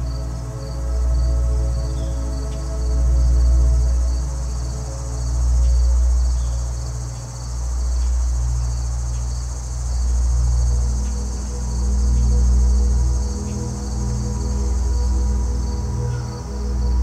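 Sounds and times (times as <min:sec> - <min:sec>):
deep ambient drone: 0:00.0 - 0:17.0
high pulsing insect chirp: 0:00.0 - 0:17.0.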